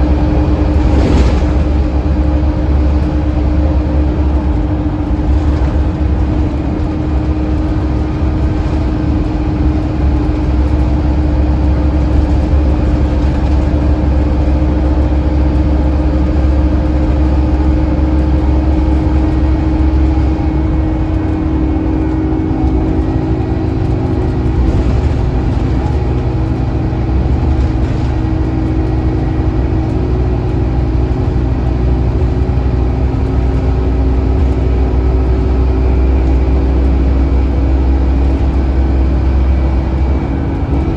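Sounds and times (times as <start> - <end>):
bus diesel engine rumble: 0.0 - 40.9.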